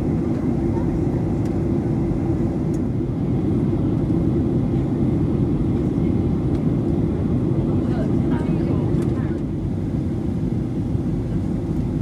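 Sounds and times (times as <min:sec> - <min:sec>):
airplane cabin engine rush: 0:00.0 - 0:12.0.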